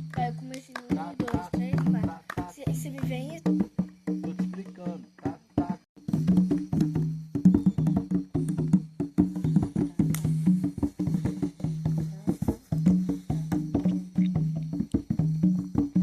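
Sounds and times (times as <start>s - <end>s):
low pitched percussion notes: 0.0s - 16.0s.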